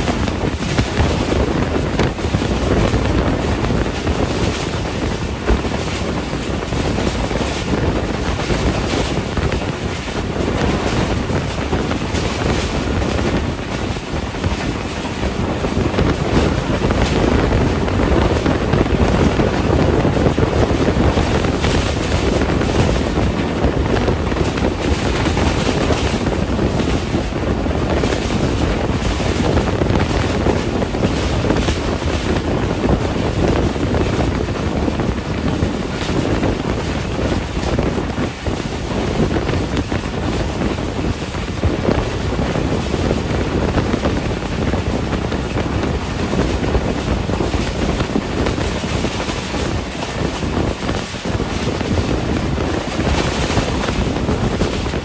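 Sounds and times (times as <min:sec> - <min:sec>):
train wheels rumbling on rails: 0:00.0 - 0:55.0
wind rushing past train window: 0:00.0 - 0:55.0.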